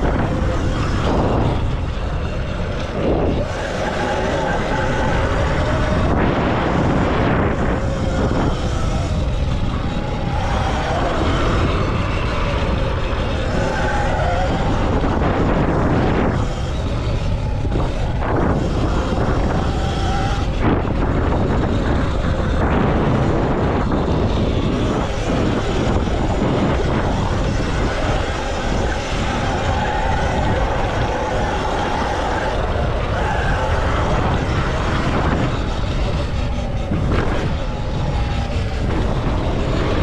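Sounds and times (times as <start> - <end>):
electric motorbike motor whine: 0.0 - 40.0
heavy rush of noise: 0.0 - 40.0.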